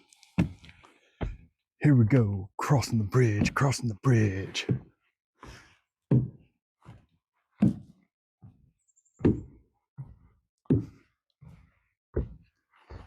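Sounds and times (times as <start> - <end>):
footsteps on footbridge deck: 0.0 - 13.0.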